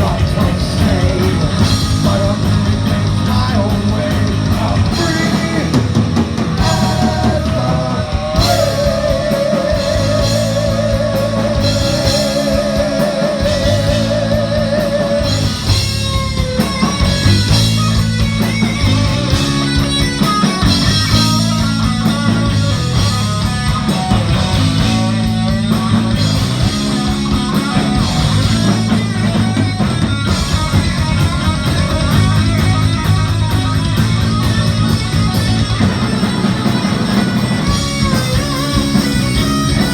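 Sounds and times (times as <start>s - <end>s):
driving bass line: 0.0s - 39.9s
drum kit: 0.0s - 39.9s
electric guitar: 0.0s - 39.9s
rock music: 0.0s - 39.9s.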